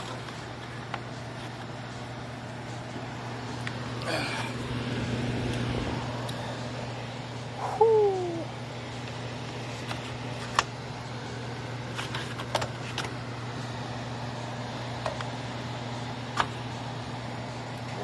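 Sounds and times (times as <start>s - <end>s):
hvac equipment humming: 0.0s - 18.0s.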